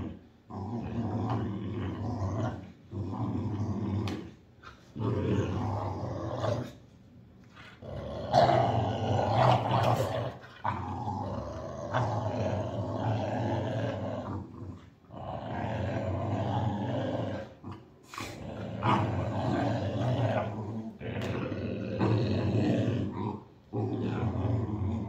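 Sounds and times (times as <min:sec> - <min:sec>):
dogs play-growling: 0:00.0 - 0:25.0.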